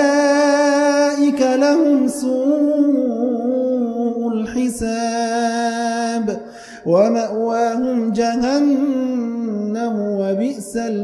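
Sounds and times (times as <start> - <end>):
person chanting recitation: 0.0 - 11.0.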